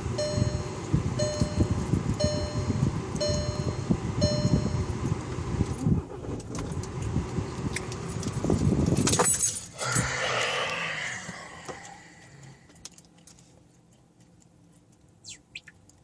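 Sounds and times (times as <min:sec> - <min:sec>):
diesel engine cranking: 0:00.2 - 0:13.1.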